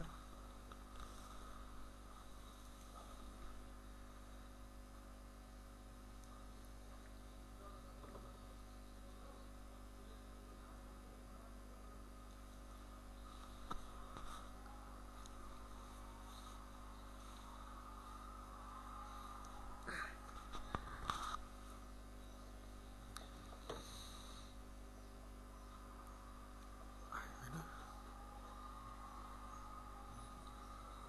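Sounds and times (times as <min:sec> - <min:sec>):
faint mains hum: 0:00.0 - 0:31.0.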